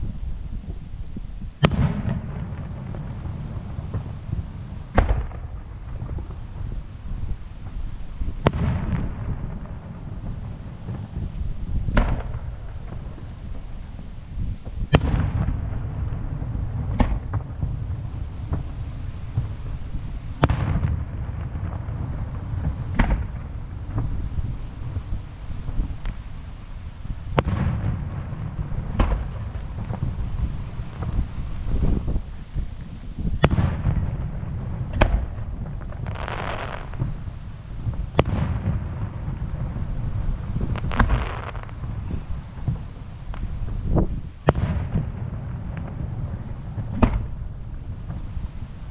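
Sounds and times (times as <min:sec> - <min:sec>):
steady low rumble: 0:00.0 - 0:44.4
wind buffeting microphone: 0:00.0 - 0:48.9
fireworks bursting with echo: 0:01.4 - 0:48.9.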